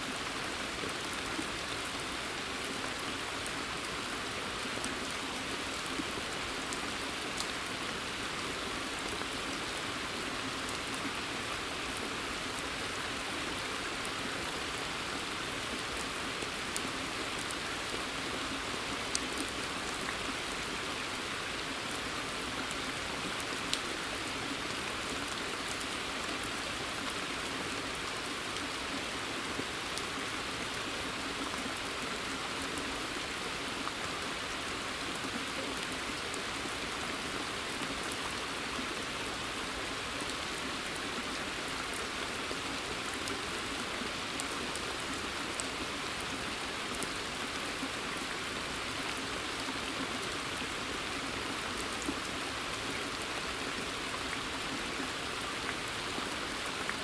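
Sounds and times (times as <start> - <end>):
rain falling on a pond: 0.0 - 57.0.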